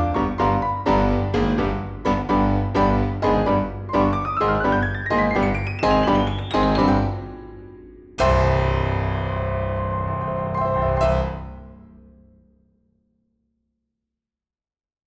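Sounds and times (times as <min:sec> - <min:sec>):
piano chord: 0:00.0 - 0:12.3.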